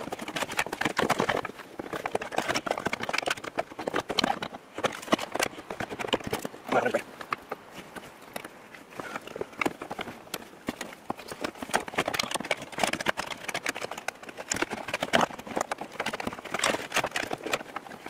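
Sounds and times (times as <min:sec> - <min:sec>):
plastic and metal parts clicking: 0:00.0 - 0:07.7, 0:08.3 - 0:18.0.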